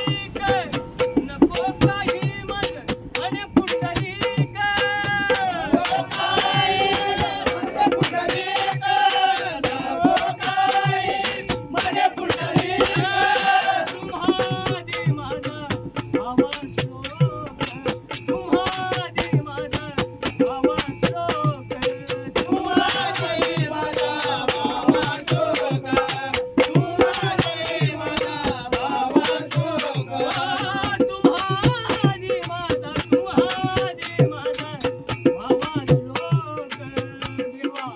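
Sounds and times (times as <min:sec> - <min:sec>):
hand cymbals and drum beat: 0:00.0 - 0:37.9.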